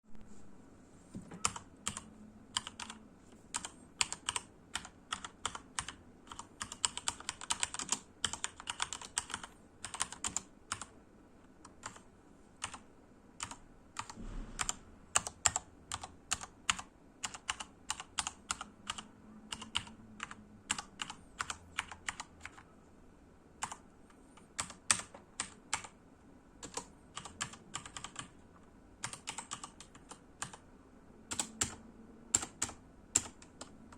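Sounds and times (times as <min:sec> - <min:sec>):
mechanical keyboard typing: 0:01.3 - 0:10.9, 0:11.6 - 0:12.8, 0:13.4 - 0:22.7, 0:23.6 - 0:26.0, 0:26.6 - 0:28.4, 0:29.0 - 0:30.7, 0:31.3 - 0:33.9.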